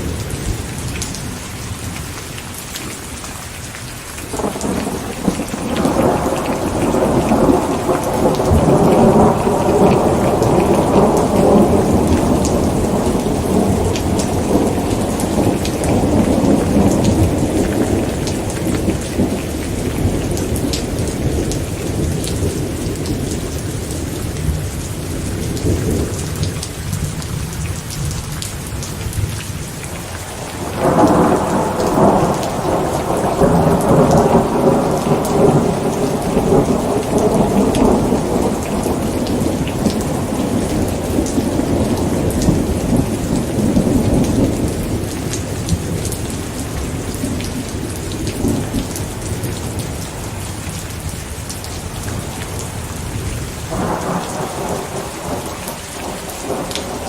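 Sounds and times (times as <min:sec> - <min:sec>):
steady rain falling: 0:00.0 - 0:57.0
thunder rumbling: 0:04.3 - 0:27.3, 0:29.1 - 0:51.1, 0:51.7 - 0:57.0.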